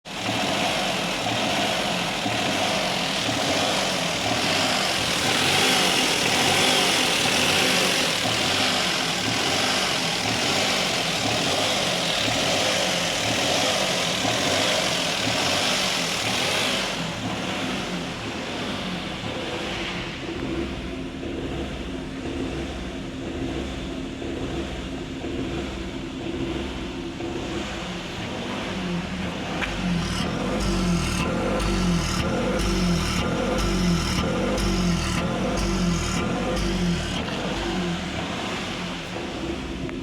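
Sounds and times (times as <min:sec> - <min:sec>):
car engine misfiring: 0:00.0 - 0:40.0.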